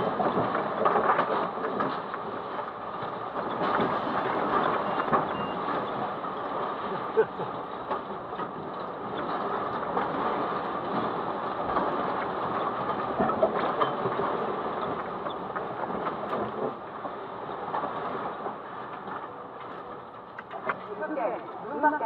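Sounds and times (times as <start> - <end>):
car body rattling and creaking: 0.0 - 22.0
earthquake rumbling clatter: 0.0 - 22.0.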